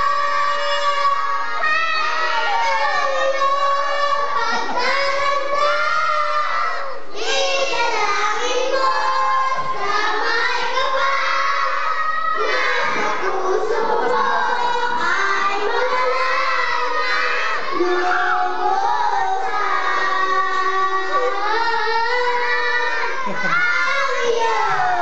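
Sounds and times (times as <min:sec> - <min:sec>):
children's voices: 0:00.0 - 0:25.0
girl singing into a microphone: 0:00.0 - 0:25.0.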